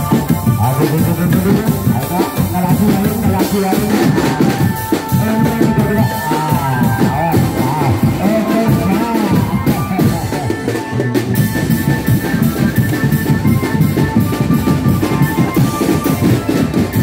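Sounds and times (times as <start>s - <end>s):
drum kit beat: 0.0s - 17.0s
wavering melody line: 0.0s - 17.0s.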